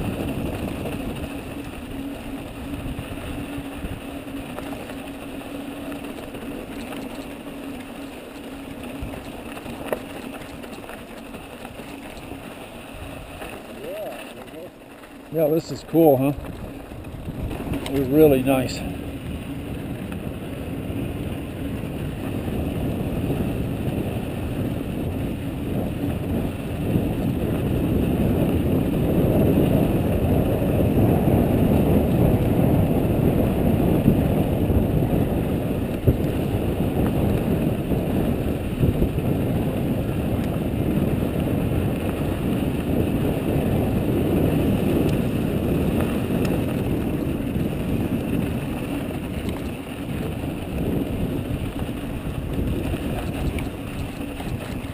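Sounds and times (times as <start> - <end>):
wind on microphone: 0.0 - 7.0, 15.3 - 54.9
bike rattling: 0.0 - 54.9
bike tyres rolling over gravel: 0.0 - 54.9.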